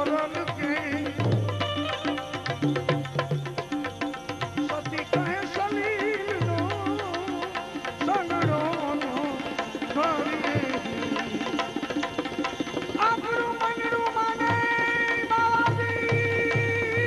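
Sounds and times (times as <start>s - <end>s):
tabla strokes: 0.0s - 17.0s.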